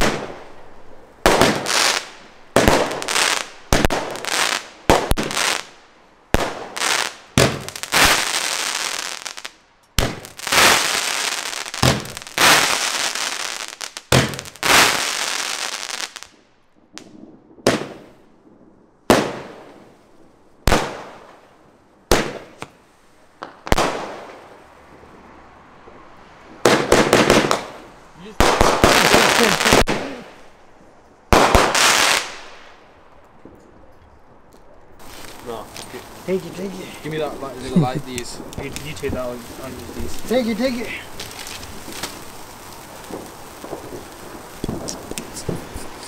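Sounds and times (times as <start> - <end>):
fireworks bangs: 0.0 - 18.4, 19.0 - 20.0, 20.6 - 33.9, 35.0 - 46.0
fireworks crackling: 0.0 - 34.0, 34.9 - 46.0.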